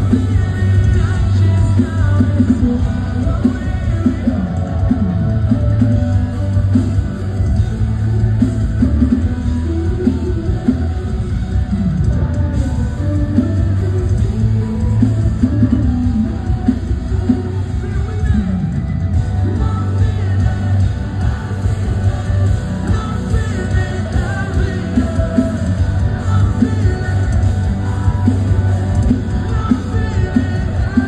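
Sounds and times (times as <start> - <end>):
drums: 0.0 - 31.0
electric guitar: 0.0 - 31.0
person singing lead vocal: 0.0 - 31.0
rock band playing: 0.0 - 31.0.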